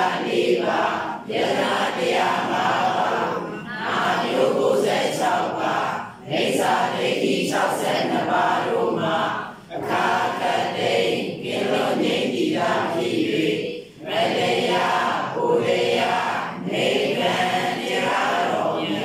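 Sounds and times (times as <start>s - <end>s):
group chanting in unison: 0.0s - 19.0s.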